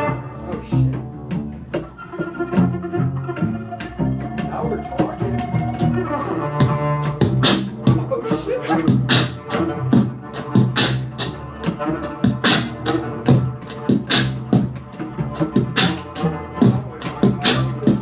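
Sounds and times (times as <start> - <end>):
beatboxing rhythm: 0.0 - 18.0
bowed cello notes: 0.0 - 18.0.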